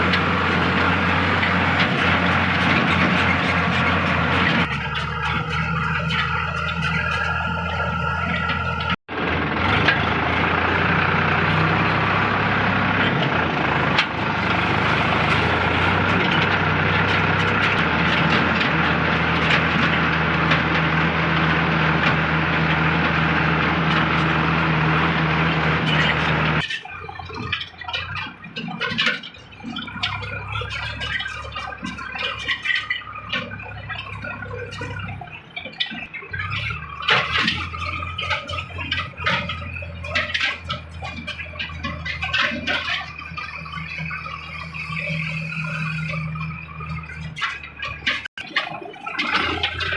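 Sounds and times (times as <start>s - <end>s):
clatter and squeaks: 0.0s - 49.9s
tractor diesel engine running: 0.0s - 49.9s.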